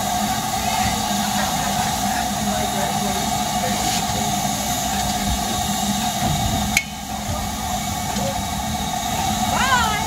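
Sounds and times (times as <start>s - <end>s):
train wheels rumbling over rail joints: 0.0s - 10.0s.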